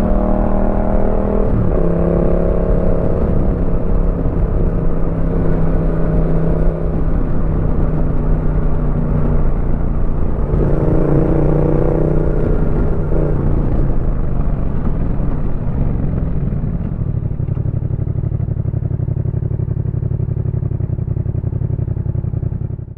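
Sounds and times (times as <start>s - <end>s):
motorcycle exhaust: 0.0s - 22.9s.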